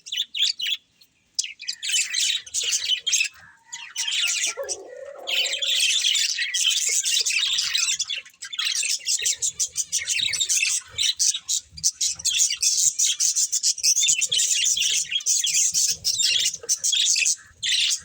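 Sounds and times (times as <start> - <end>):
budgerigars chirping and chattering: 0.0 - 18.0.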